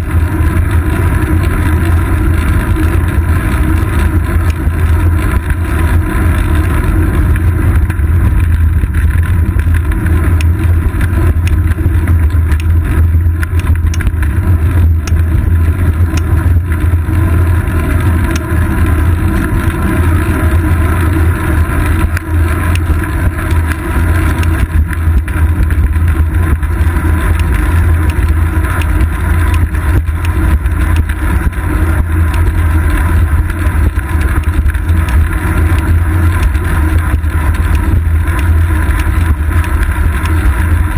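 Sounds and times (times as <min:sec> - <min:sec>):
wind and road vibration: 0:00.0 - 0:40.9.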